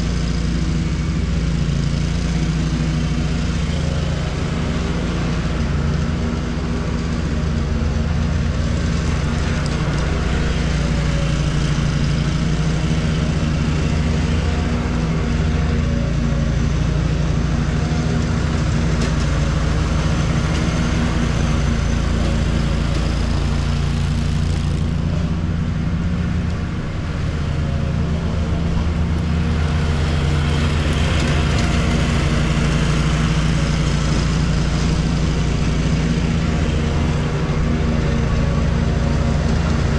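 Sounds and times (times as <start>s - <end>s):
riding mower engine drone: 0.0s - 39.9s.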